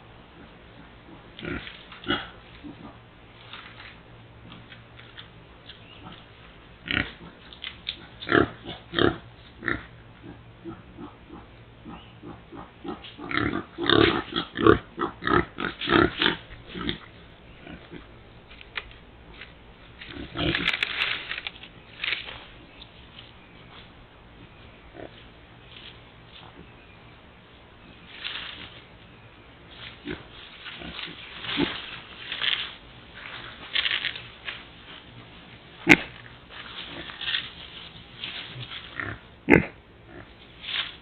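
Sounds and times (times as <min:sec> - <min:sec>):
hog rooting in ground litter: 0:00.0 - 0:41.0.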